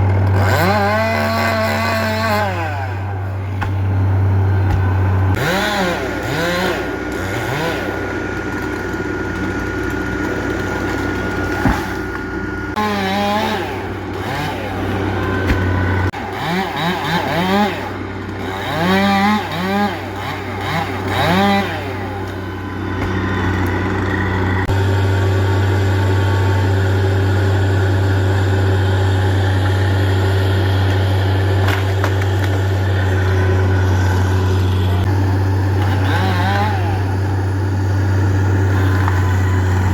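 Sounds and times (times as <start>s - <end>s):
chainsaw engine revving: 0.0s - 39.9s
low engine hum: 0.0s - 39.9s.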